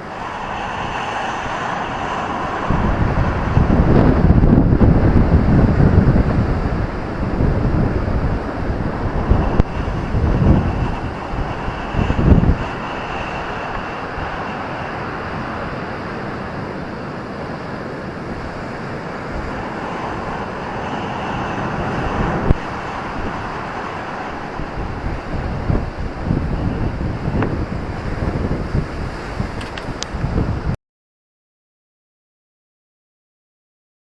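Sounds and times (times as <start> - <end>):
surf breaking on beach: 0.0 - 30.8
wind buffeting microphone: 0.0 - 30.8.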